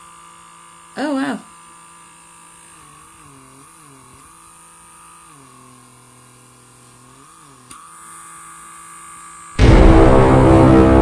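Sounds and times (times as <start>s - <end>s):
small electric motor humming: 0.0s - 9.6s.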